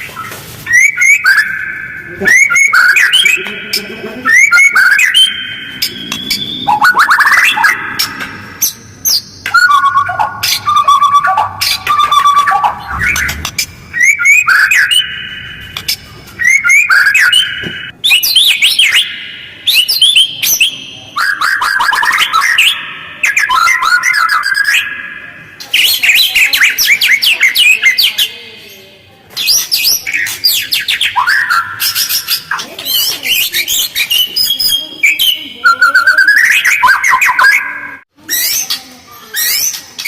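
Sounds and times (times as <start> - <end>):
bird singing chattering notes: 0.7 - 28.4, 29.4 - 40.0.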